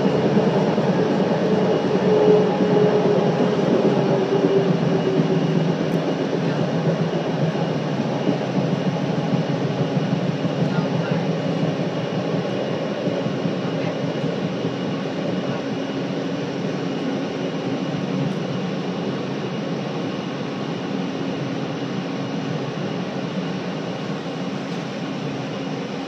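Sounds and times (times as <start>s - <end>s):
train wheels and motor rumbling: 0.0s - 26.0s.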